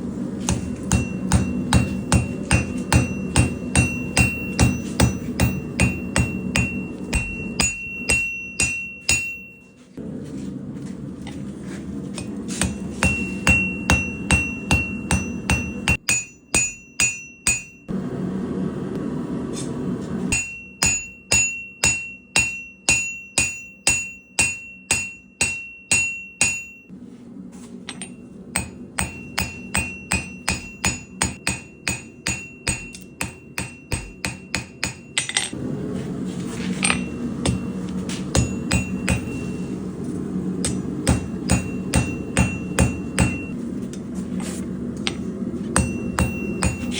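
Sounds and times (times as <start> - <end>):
hammer striking steel on anvil: 0.4 - 9.8, 12.2 - 17.9, 20.3 - 26.9, 27.8 - 35.6, 36.8 - 43.6, 45.0 - 46.9.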